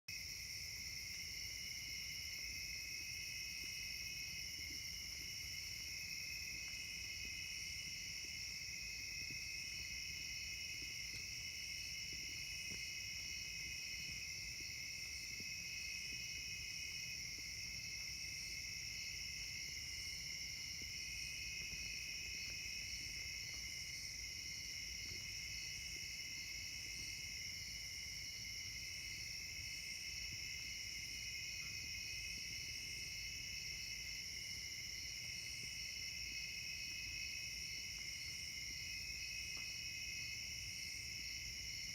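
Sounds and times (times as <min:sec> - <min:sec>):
high continuous insect trill: 0:00.1 - 0:41.9.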